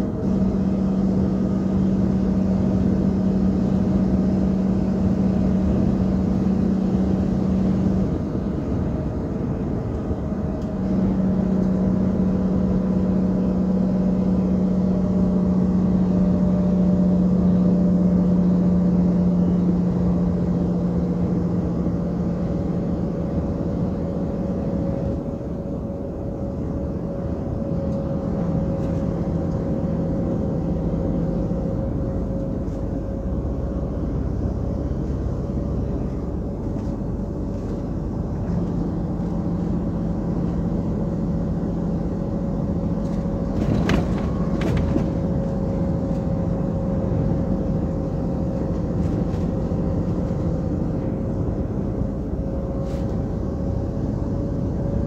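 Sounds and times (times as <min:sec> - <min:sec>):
low hum: 0:00.0 - 0:55.0
truck diesel engine drone: 0:00.0 - 0:55.0.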